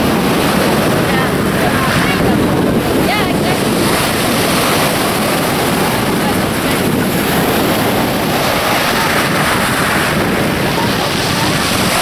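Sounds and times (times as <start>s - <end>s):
choppy water rushing: 0.0s - 12.0s
wind buffeting microphone: 0.0s - 12.0s.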